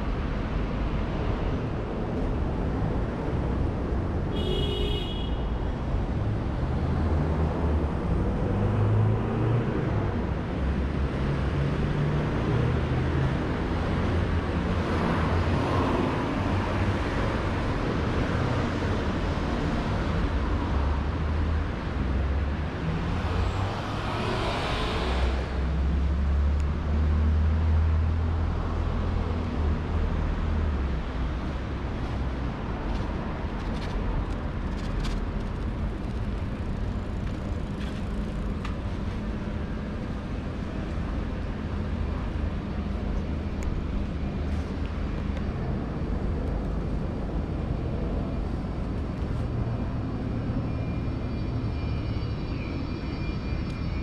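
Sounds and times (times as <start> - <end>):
city street traffic: 0.0 - 54.0
vehicles passing: 0.0 - 54.0.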